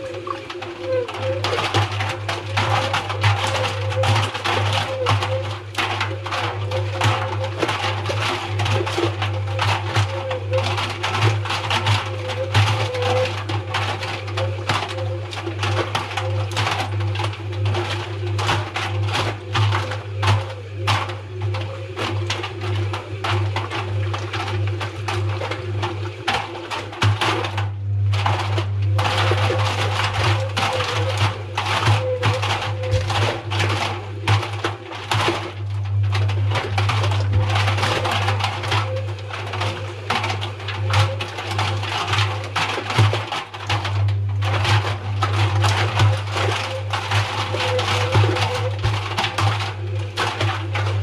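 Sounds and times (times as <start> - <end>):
washing machine motor hum: 0.0 - 51.0.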